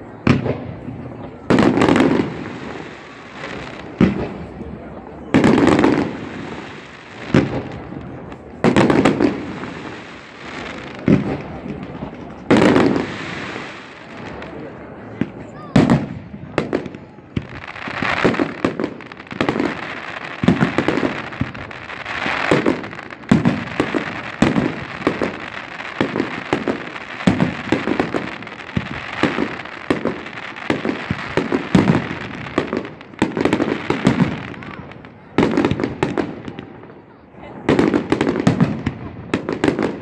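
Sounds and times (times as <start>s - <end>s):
fireworks crackling and hissing: 0.0s - 40.0s.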